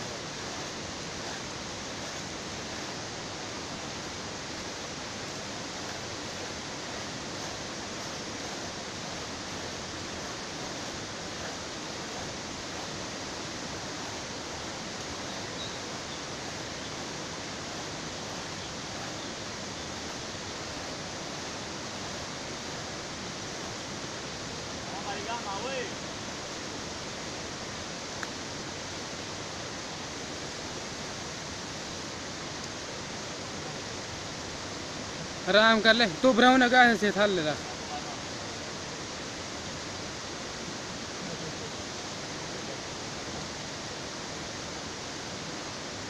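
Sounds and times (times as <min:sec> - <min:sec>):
steady rushing noise: 0:00.0 - 0:46.0.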